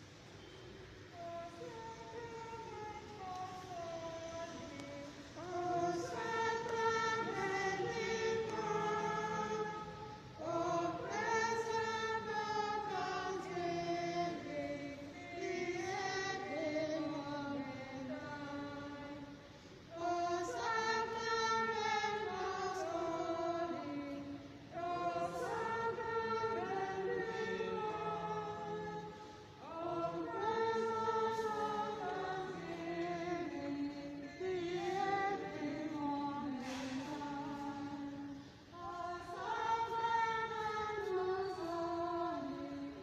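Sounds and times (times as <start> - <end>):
church choir singing a hymn: 1.1 - 43.0.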